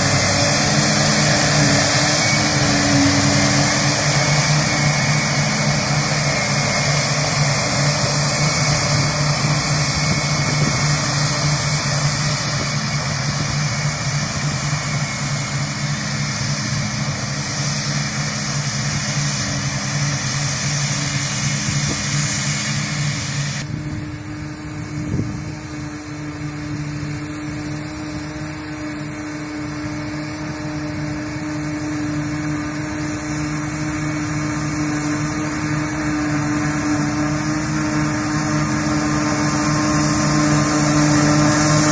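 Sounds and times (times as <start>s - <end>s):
harvester engine drone: 0.0s - 41.9s
tractor working: 0.0s - 41.9s.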